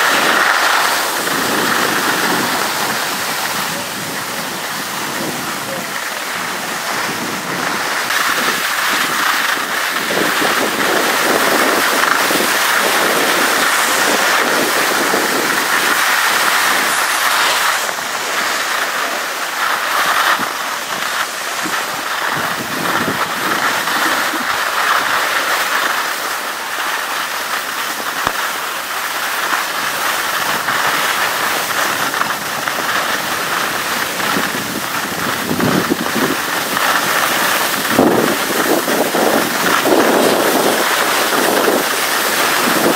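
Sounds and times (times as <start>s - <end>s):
wind buffeting microphone: 0.0s - 18.8s, 19.6s - 25.5s, 29.9s - 42.9s
skis sliding over snow: 0.0s - 42.9s.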